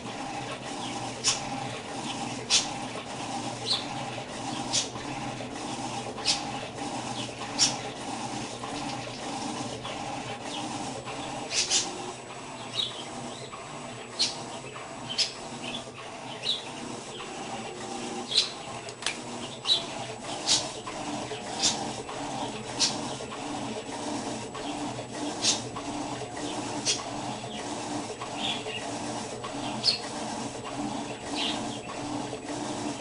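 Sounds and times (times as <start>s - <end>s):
washing machine humming: 0.0s - 33.0s.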